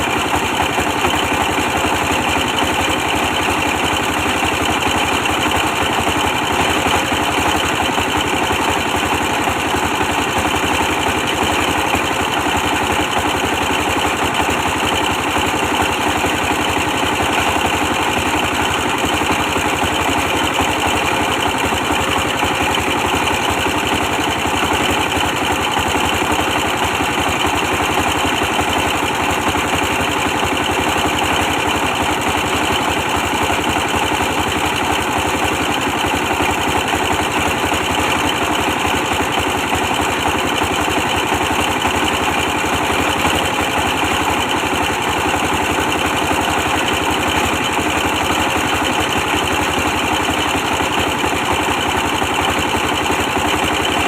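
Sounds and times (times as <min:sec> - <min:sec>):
stationary diesel engine running: 0:00.0 - 0:54.0.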